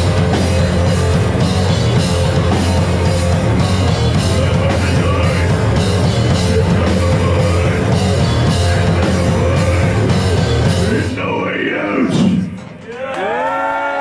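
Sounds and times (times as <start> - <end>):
punk band playing live: 0.0 - 13.1.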